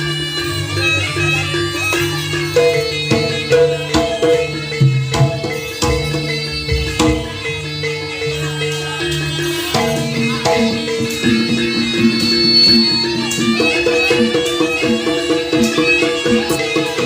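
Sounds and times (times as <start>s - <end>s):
hand-drum strokes: 0.0s - 8.2s, 9.5s - 17.0s
ringing pitched ensemble tones: 0.0s - 17.0s.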